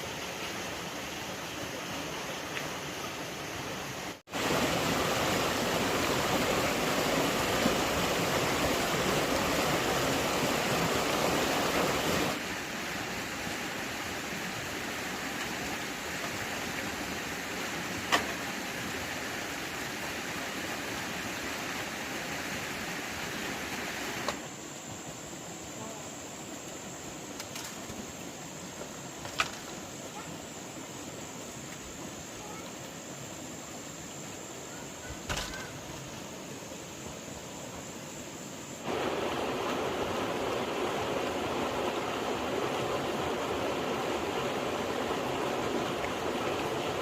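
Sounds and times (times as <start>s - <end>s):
running water rushing: 0.0s - 47.0s.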